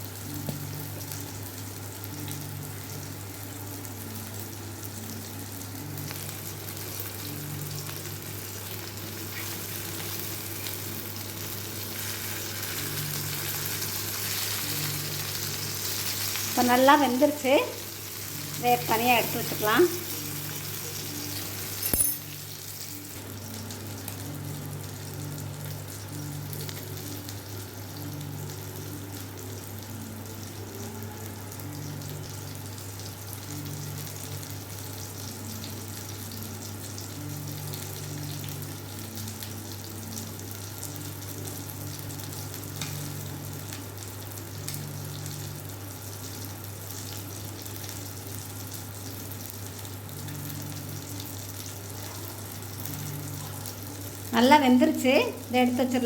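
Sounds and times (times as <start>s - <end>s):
chicken sizzling on a griddle: 0.0s - 56.0s.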